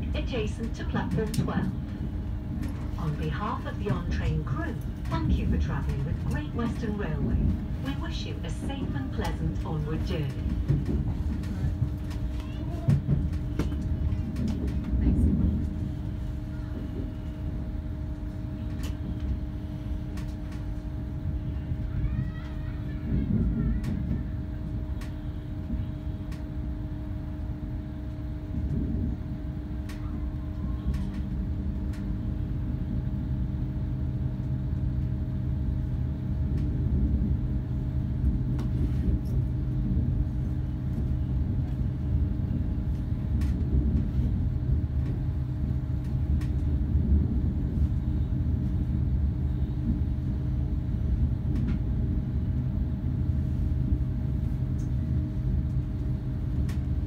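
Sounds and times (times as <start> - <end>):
constant hum: 0.0 - 57.0
train wheels rumbling: 0.0 - 57.0.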